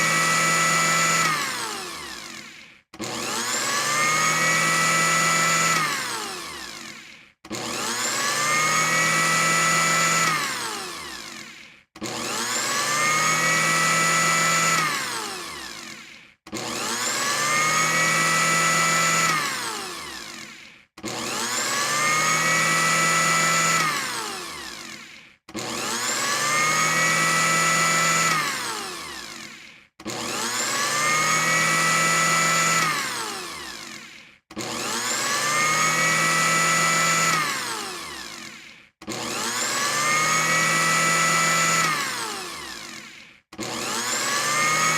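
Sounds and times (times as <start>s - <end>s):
electric blender motor: 0.0s - 44.9s.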